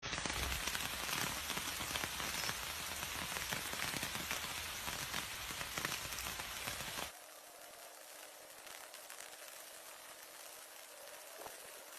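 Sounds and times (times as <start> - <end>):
faint hiss: 0.0 - 11.9
rain drops pattering: 0.0 - 11.9.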